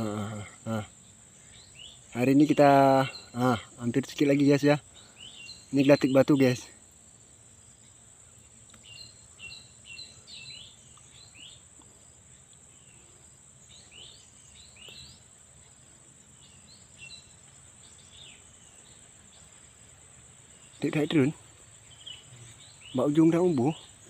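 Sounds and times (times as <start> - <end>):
birds chirping: 0.0 - 24.0
high drone of insects: 0.0 - 24.0.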